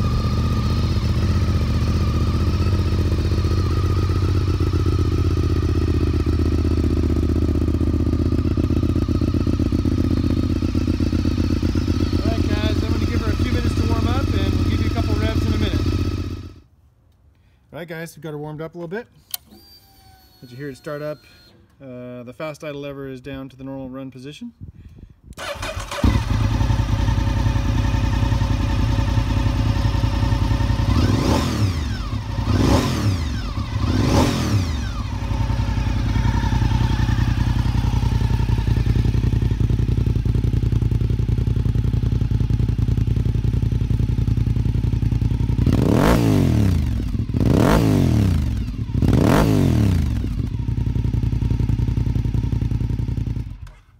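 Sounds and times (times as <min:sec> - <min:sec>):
motorcycle engine idling: 0:00.0 - 0:16.6, 0:25.4 - 0:53.9
motorcycle engine revving: 0:00.0 - 0:16.7, 0:25.4 - 0:53.9.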